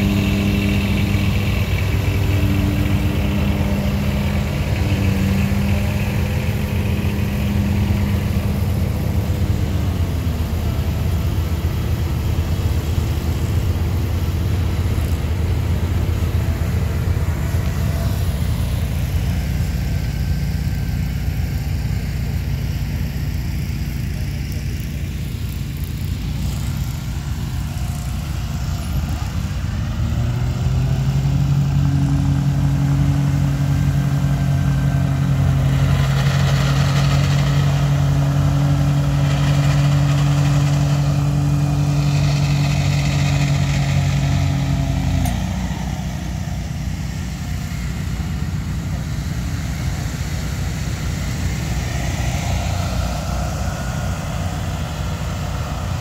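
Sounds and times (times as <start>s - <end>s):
ride-on mower engine running: 0.0s - 56.0s.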